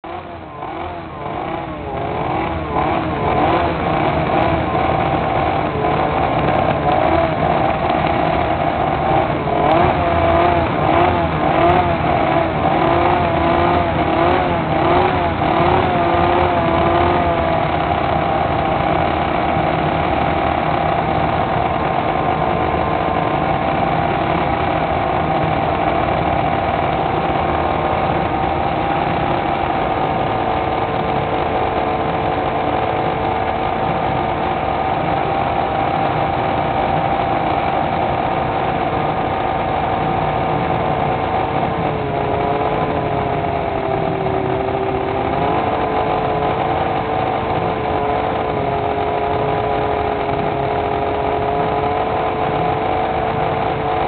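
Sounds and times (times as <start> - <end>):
motorcycle engines revving and idling: 0.0 - 54.0.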